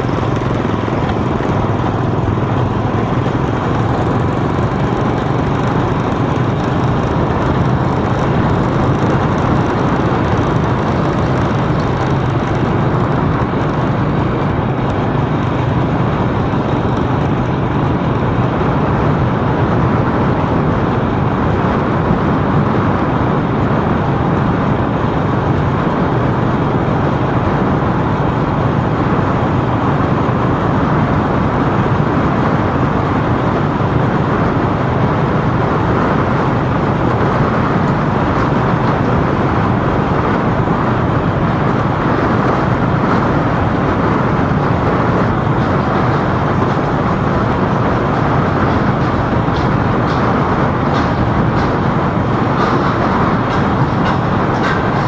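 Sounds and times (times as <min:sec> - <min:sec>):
constant low hum: 0:00.0 - 0:55.0
vehicle engine and tyre noise: 0:00.0 - 0:55.0.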